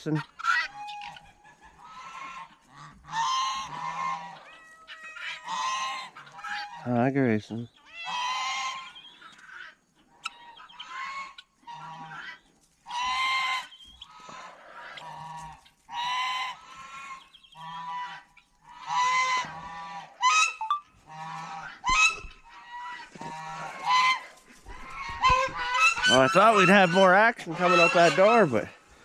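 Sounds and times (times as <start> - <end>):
geese honking: 0.0 - 7.1, 7.7 - 29.0.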